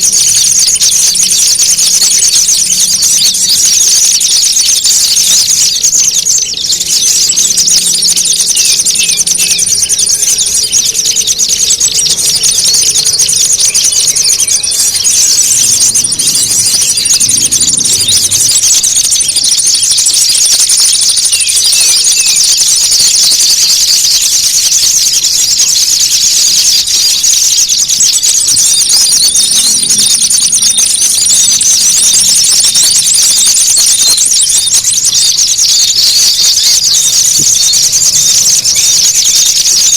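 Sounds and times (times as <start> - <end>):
chatter of many small birds: 0.0 - 39.9.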